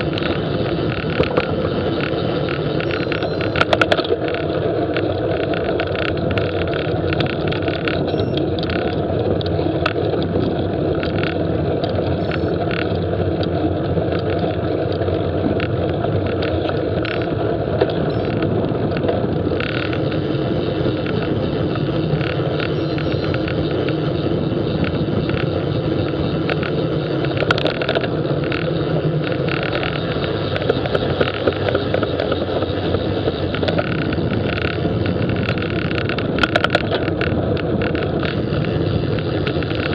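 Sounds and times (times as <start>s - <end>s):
bicycle road noise: 0.0s - 39.9s
wind noise: 0.0s - 39.9s.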